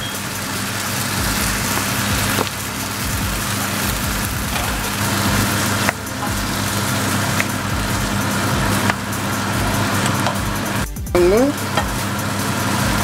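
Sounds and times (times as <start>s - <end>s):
sauce sizzling in a frying pan: 0.0s - 13.0s
steady low hum: 0.0s - 13.0s.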